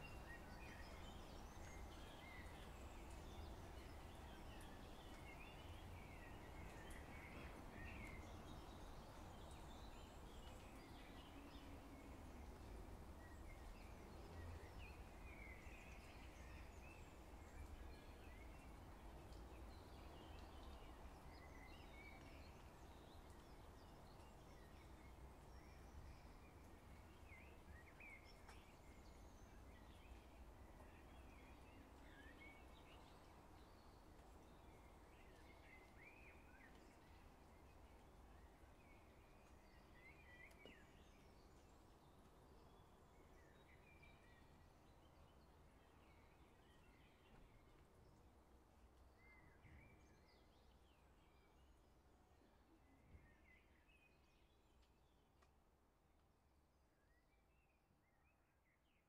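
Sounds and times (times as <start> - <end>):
low rumble of wind: 0.0 - 55.2.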